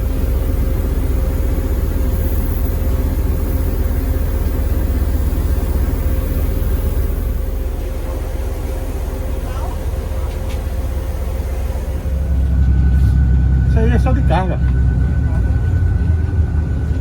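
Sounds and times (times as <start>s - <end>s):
constant hum: 0.0s - 17.0s
low engine rumble: 0.0s - 17.0s.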